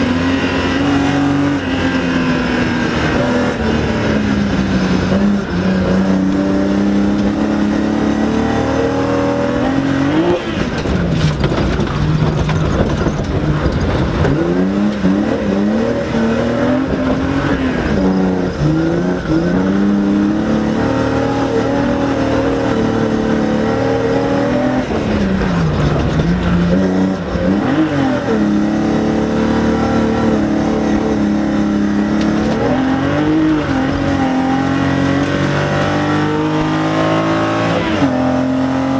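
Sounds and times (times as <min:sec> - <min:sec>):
rally car engine revving: 0:00.0 - 0:38.9
tyre and road noise: 0:00.0 - 0:38.9.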